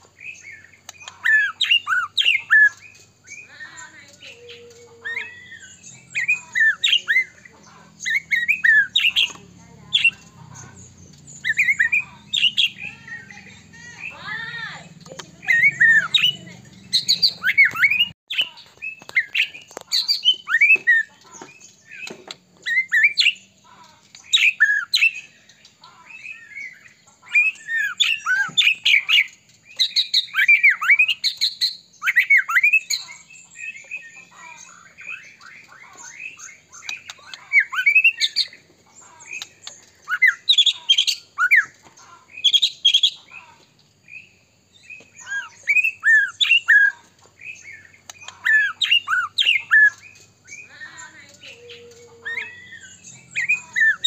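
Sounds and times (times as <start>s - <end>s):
bird singing whistles and chatter: 0.0s - 54.0s.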